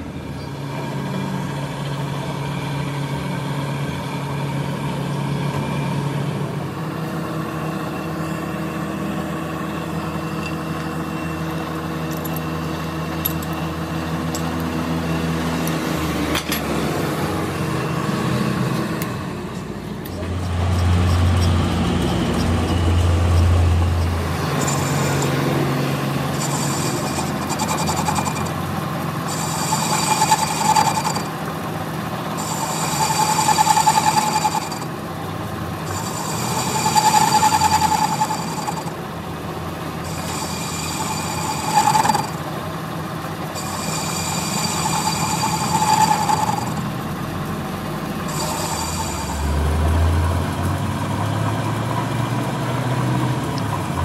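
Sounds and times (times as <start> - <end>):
cutting tool whine: 0.0 - 54.0
lathe machine hum: 0.0 - 54.0.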